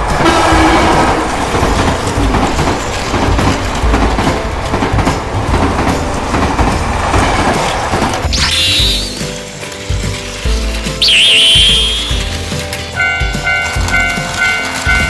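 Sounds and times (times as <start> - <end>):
toy train rattling on plastic track: 0.0 - 15.0.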